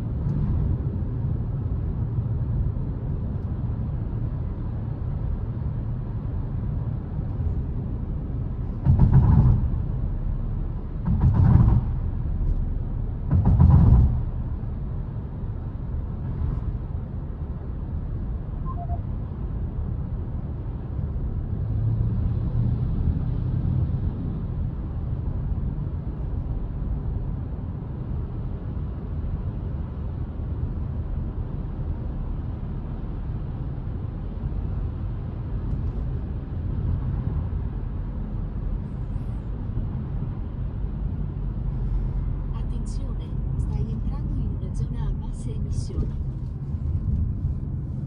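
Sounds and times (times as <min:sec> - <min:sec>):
car cabin road and engine noise: 0:00.0 - 0:48.0.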